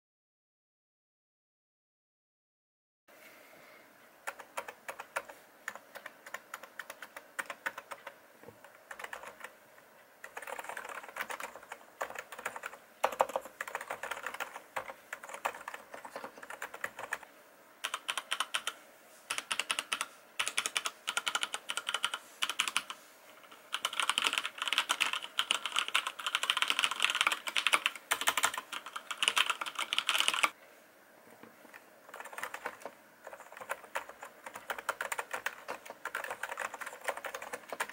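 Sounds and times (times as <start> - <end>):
soft quiet keyboard typing: 4.2 - 30.6, 31.3 - 37.9.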